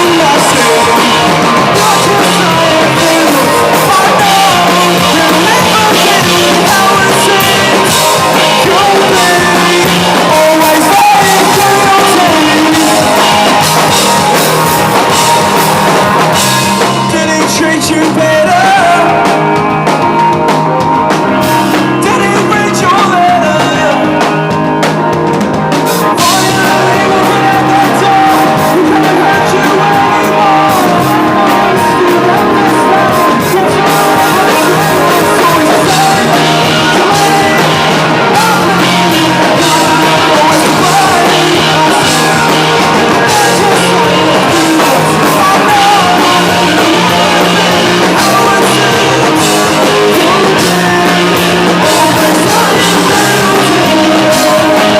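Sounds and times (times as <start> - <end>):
person singing: 0.0 - 54.9
rock band playing: 0.0 - 54.9.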